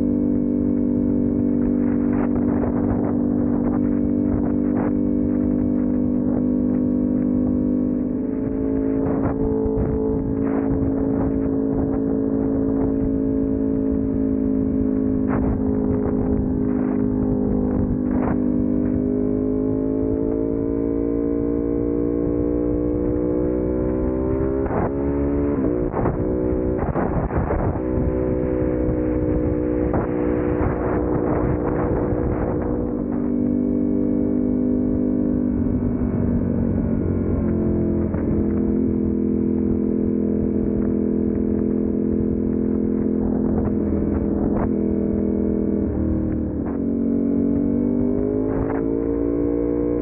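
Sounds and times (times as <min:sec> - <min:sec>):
motorcycle engine droning: 0:00.0 - 0:50.0
wind noise on microphone: 0:00.0 - 0:50.0.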